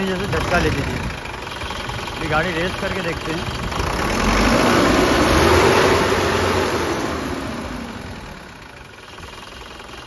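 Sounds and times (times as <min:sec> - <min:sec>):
diesel truck engine revving: 0:00.0 - 0:10.0.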